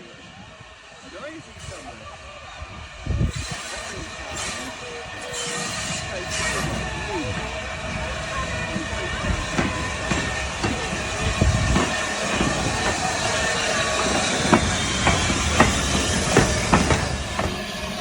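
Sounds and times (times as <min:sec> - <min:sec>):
steam train hissing: 0:00.0 - 0:18.0
wheels clacking over rail joints: 0:03.4 - 0:18.0.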